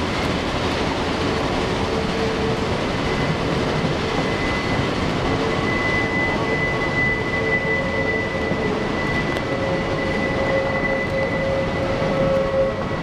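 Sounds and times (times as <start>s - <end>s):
train wheels rumbling on rail: 0.0s - 13.0s
high wheel squeal: 1.3s - 13.0s.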